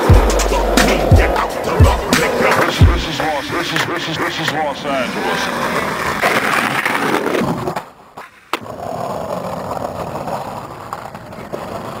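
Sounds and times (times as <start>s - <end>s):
skateboard clack: 0.0s - 12.0s
skateboard wheels rolling on pavement: 1.2s - 12.0s.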